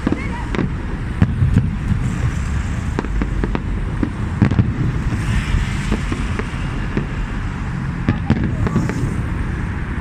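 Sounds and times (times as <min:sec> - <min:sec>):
firework bangs and crackles: 0:00.0 - 0:10.0
low rumble: 0:00.5 - 0:10.0.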